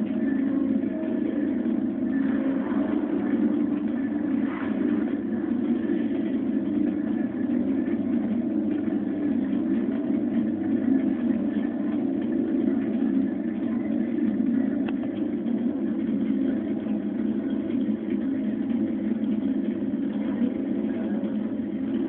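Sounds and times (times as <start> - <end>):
steady low drone: 0.0 - 22.0.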